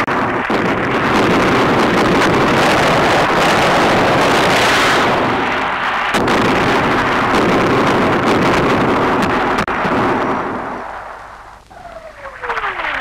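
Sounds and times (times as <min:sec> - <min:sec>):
explosions: 0:00.0 - 0:13.0
sharp crack: 0:00.0 - 0:13.0.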